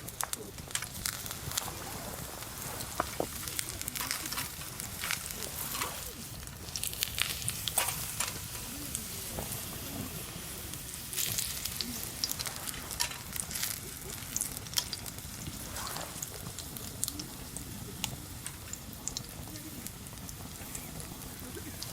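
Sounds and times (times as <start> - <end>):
campfire crackling: 0.0 - 21.9
food sizzling in a pan: 0.0 - 21.9.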